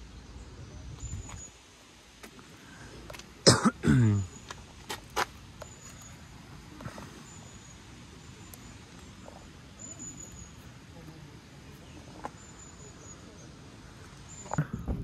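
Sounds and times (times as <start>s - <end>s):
faint distant talking: 0.5s - 15.0s.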